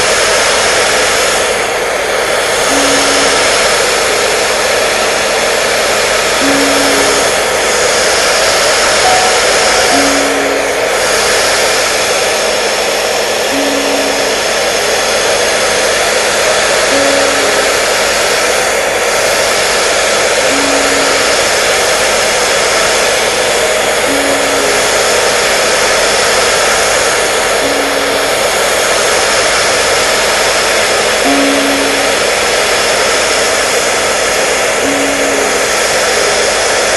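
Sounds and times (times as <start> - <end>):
hair dryer running: 0.0 - 36.9.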